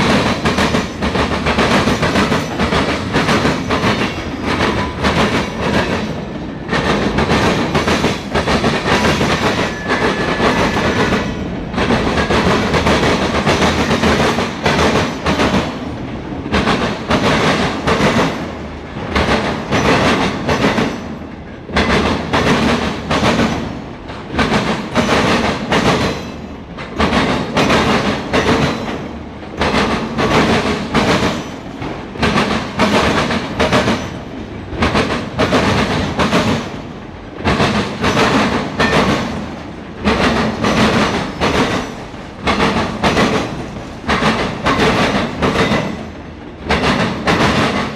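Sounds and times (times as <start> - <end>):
train wheels clickety-clack: 0.0 - 47.9.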